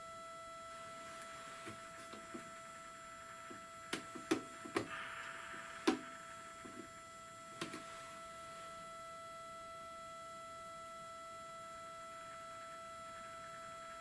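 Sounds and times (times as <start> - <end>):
high-pitched hum: 0.0 - 14.0.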